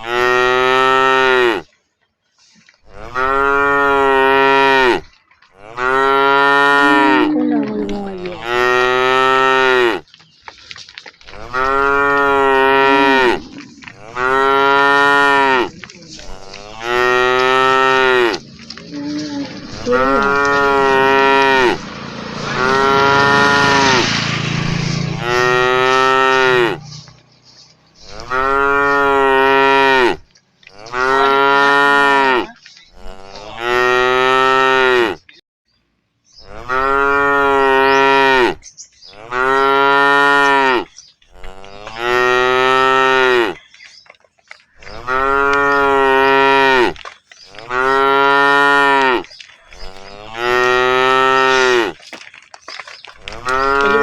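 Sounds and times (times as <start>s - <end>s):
cattle mooing: 2.9s - 10.1s, 11.3s - 27.2s, 28.0s - 35.3s, 36.5s - 43.6s, 44.8s - 52.0s, 53.2s - 54.0s.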